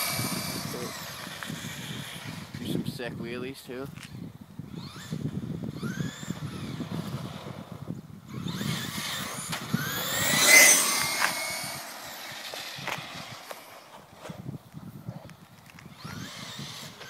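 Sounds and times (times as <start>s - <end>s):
electric motor whining: 0.0s - 2.7s, 4.1s - 14.6s, 15.6s - 17.0s.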